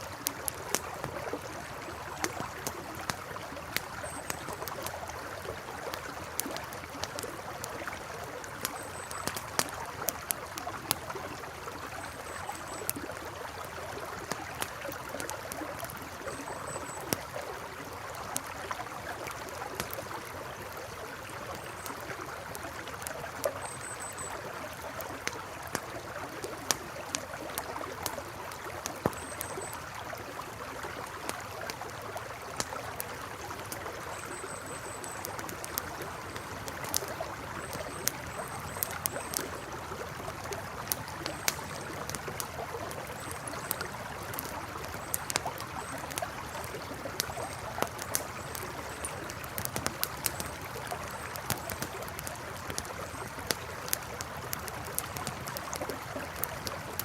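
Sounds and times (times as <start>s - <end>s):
campfire crackling and popping: 0.0s - 57.0s
river flowing: 0.0s - 57.0s.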